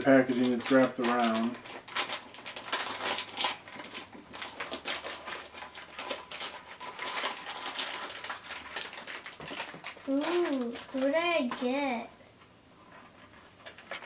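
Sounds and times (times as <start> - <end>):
foil wrapper crinkling: 0.0 - 11.9.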